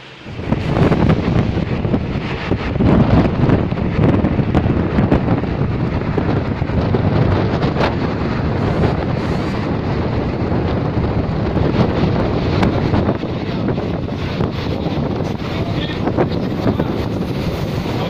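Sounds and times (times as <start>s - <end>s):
train rumbling on track: 0.0s - 18.0s
wind buffeting microphone: 0.0s - 18.0s.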